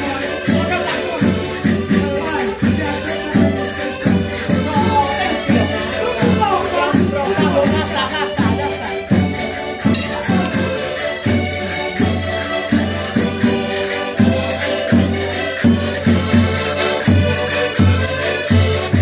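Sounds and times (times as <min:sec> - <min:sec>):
accordion chords: 0:00.0 - 0:19.0
shaken percussion: 0:00.0 - 0:19.0.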